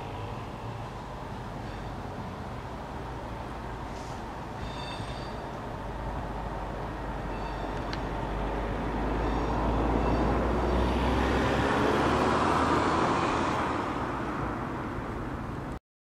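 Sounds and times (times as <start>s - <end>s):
road traffic: 0.0s - 15.8s.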